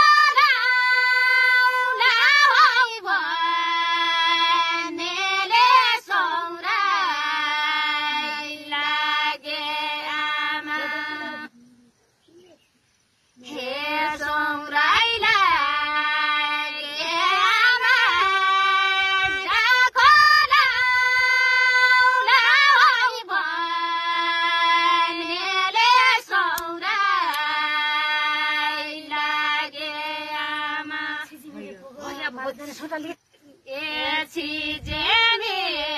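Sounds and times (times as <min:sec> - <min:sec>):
woman singing unaccompanied: 0:00.0 - 0:12.0, 0:13.4 - 0:35.9.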